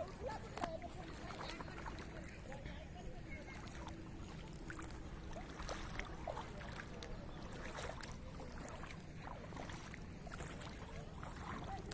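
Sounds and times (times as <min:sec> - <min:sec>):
floodwater rushing: 0:00.0 - 0:11.9.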